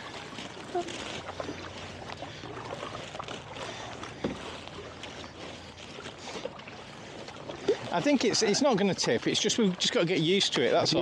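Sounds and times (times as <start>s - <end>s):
paddles splashing in water: 0.0s - 11.0s
water lapping on hull: 0.0s - 11.0s.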